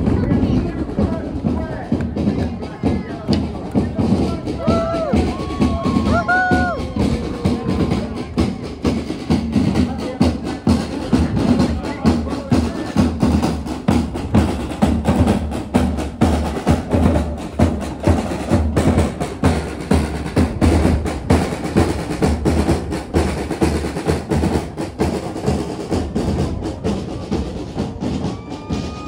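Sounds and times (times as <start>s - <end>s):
rapid light drum strikes: 0.0s - 29.0s.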